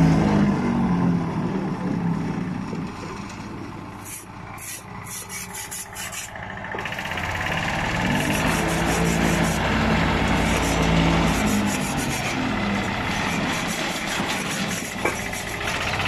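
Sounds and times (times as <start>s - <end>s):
asphalt roller engine running: 0.0s - 16.0s.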